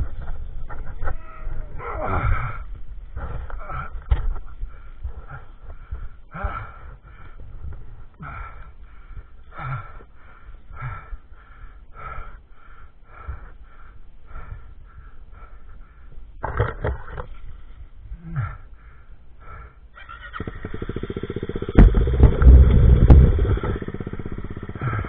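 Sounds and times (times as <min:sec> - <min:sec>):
person breathing hard: 0:01.5 - 0:16.4, 0:17.6 - 0:25.0.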